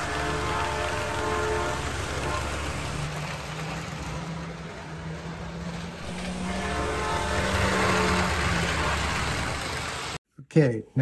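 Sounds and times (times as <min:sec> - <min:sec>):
trains rushing rumble: 0:00.0 - 0:10.2.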